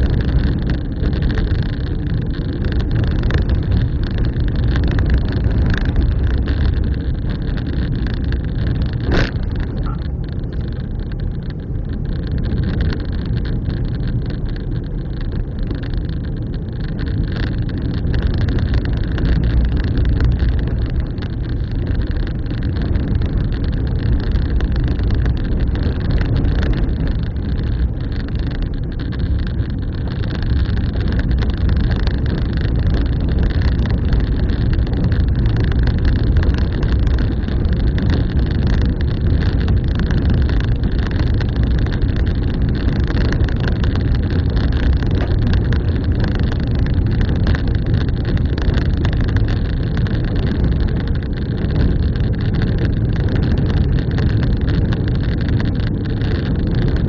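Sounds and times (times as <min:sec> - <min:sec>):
vehicle engine and road noise: 0:00.0 - 0:57.0
wind noise: 0:00.0 - 0:57.0.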